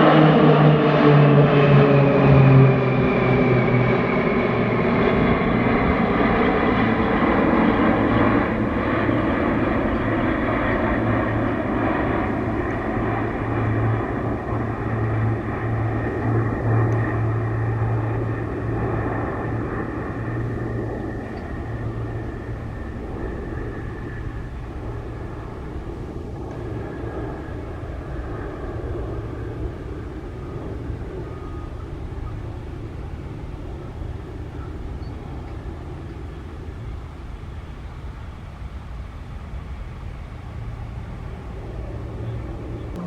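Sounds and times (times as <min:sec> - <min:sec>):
distant propeller aircraft drone: 0:00.0 - 0:43.0
faint high whine: 0:02.3 - 0:43.0.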